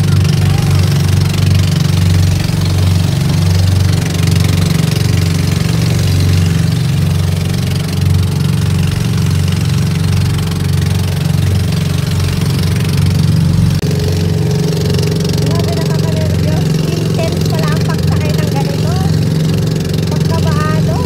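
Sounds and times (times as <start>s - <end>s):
boat engine chugging: 0.0s - 21.0s
wind and water rushing: 0.0s - 21.0s.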